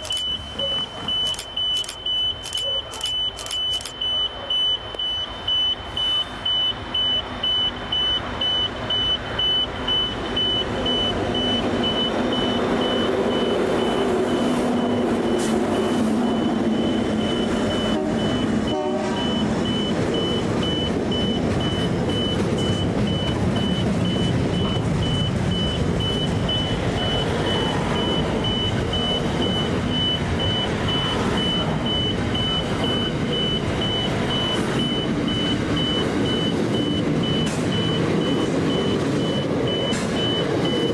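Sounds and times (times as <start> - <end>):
crossing warning signal beeping: 0.0 - 40.9
diesel locomotive engine passing: 3.9 - 40.9.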